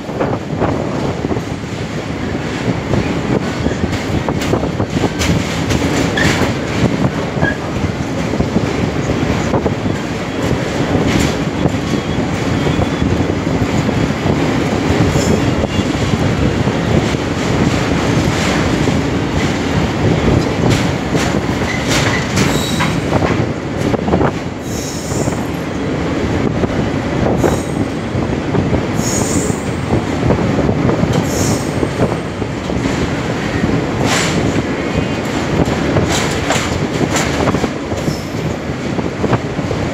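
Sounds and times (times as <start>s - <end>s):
train wheels rumbling on rails: 0.0s - 39.9s
wheels clacking over rail joints: 0.0s - 39.9s.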